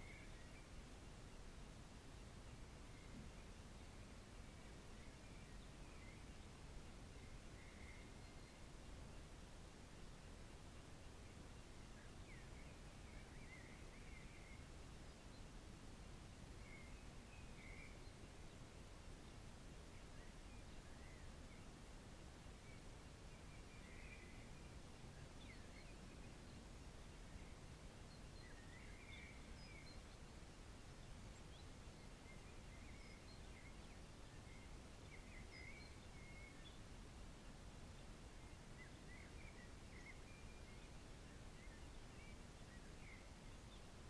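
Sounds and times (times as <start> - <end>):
faint steady hiss: 0.0 - 44.0
small birds chirping faintly: 0.0 - 44.0.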